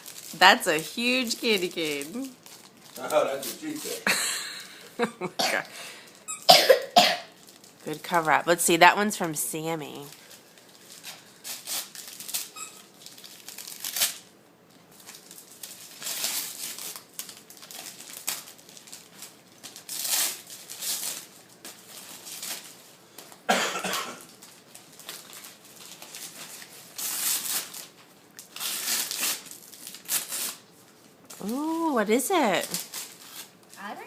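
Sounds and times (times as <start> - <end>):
wrapping paper tearing and crumpling: 0.0 - 4.1, 7.3 - 8.5, 9.2 - 23.4, 24.2 - 34.0.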